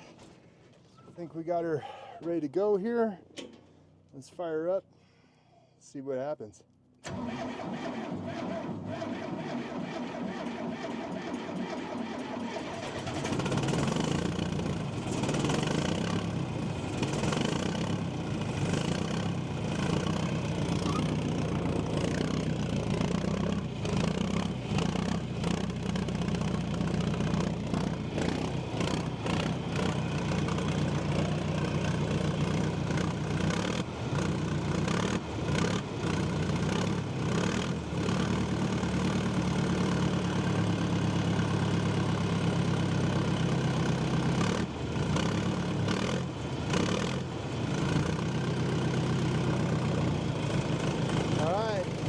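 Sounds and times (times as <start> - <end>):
diesel engine cranking and running: 7.0 - 52.0.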